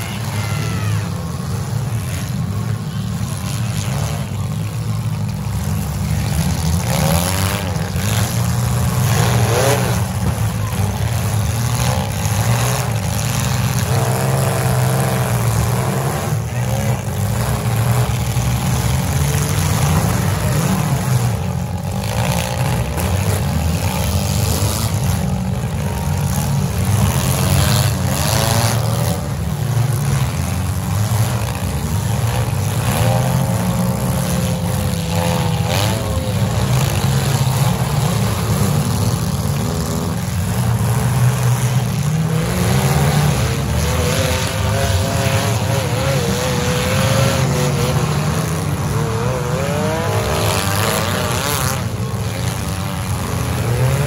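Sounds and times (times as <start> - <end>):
car engines revving unmuffled: 0.0 - 54.0.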